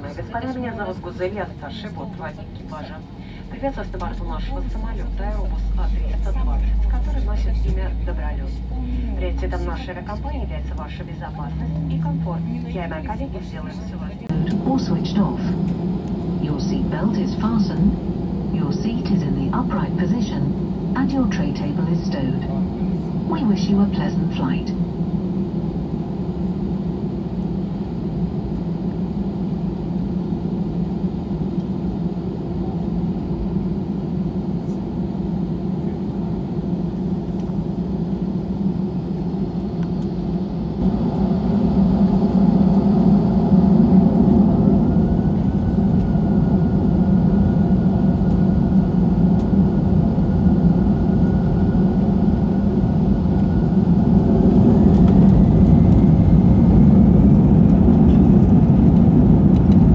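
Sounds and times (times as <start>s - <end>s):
jet engines running: 0.0s - 59.9s
engine whine rising: 1.2s - 59.9s.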